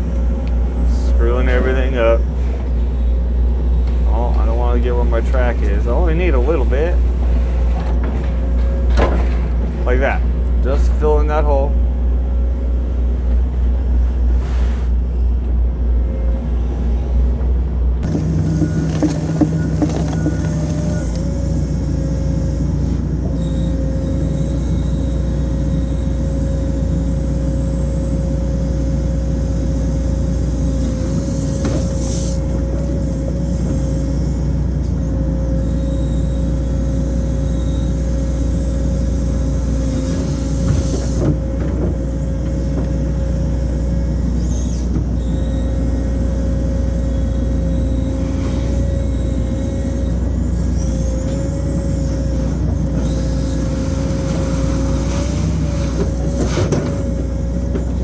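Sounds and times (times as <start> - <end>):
excavator diesel engine: 0.0 - 58.0
hydraulic pump whine: 0.0 - 58.0.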